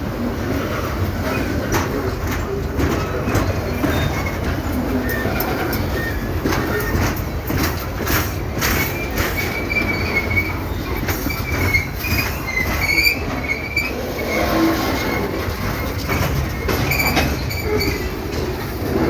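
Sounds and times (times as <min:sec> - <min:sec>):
freight train rumble: 0:00.0 - 0:19.0
wheels clacking over rail joints: 0:00.5 - 0:19.0
train wheels squealing: 0:03.0 - 0:19.0.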